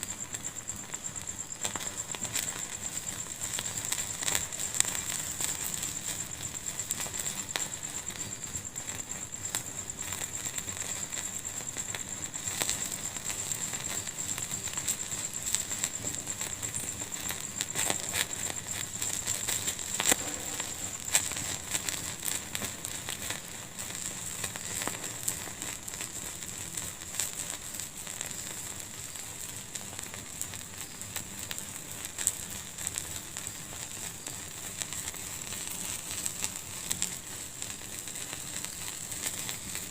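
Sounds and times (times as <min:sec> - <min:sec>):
fire crackling and popping: 0:00.0 - 0:39.9
steady high-pitched hiss: 0:00.0 - 0:39.9.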